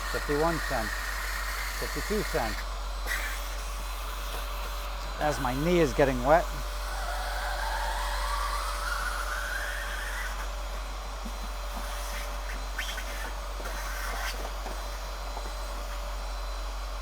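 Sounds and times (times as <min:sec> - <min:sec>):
electric blower motor hissing: 0:00.0 - 0:17.0.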